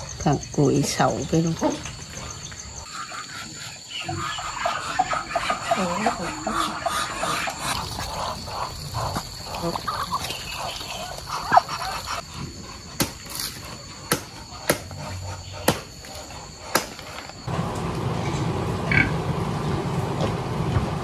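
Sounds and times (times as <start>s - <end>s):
chickens clucking: 0.0s - 17.5s.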